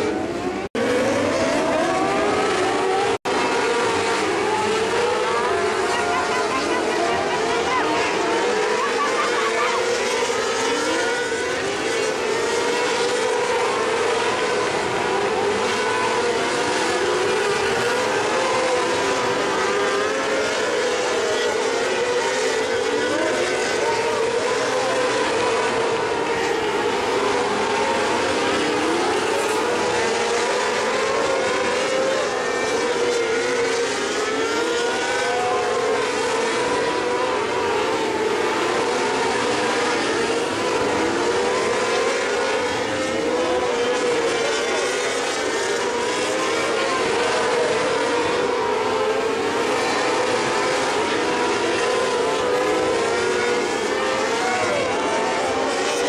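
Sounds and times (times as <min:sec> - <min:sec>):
racing car engines droning: 0:00.0 - 0:56.0.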